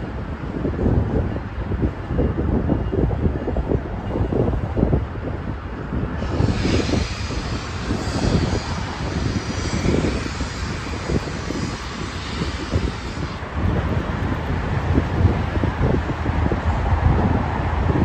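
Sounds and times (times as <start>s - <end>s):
train wheels rumbling: 0.0s - 18.0s
wind buffeting microphone: 0.0s - 18.0s.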